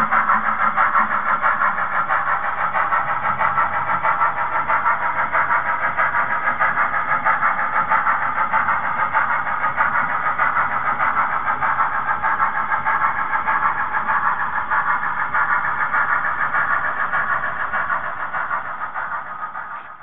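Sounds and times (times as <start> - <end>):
model train cars clattering: 0.0 - 20.0.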